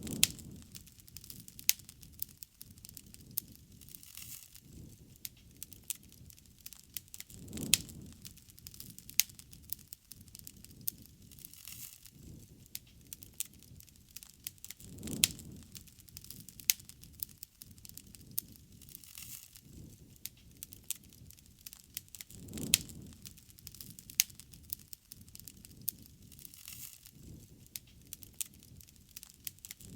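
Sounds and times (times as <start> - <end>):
bonfire crackling and popping: 0.0 - 29.9.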